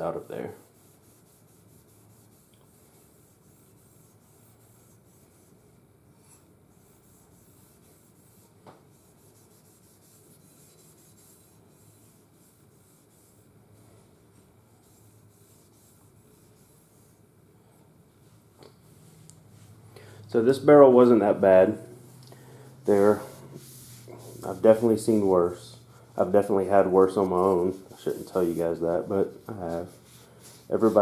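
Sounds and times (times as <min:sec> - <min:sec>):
steel wool rubbing on metal: 0:00.0 - 0:17.3, 0:22.7 - 0:31.0.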